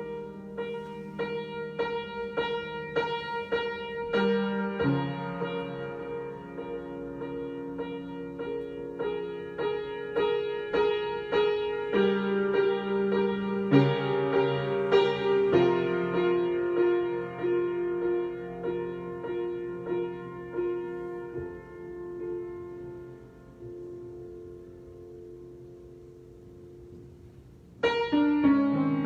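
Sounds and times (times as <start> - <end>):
solo piano improvisation: 0.0 - 29.0.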